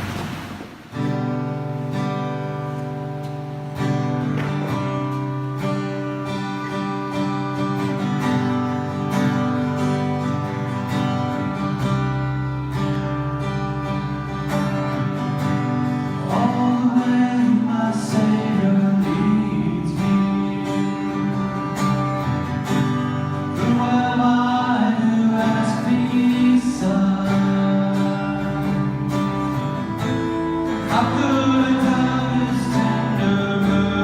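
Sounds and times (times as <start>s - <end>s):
strummed acoustic guitar: 0.0s - 34.0s.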